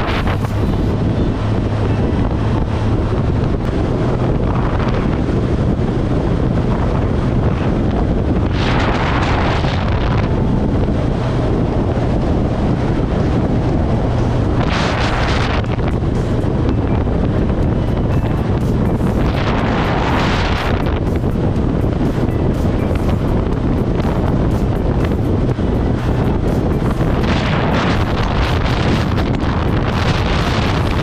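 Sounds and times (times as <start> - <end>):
motorcycle engine droning: 0.0 - 31.0
wind rushing over microphone: 0.0 - 31.0.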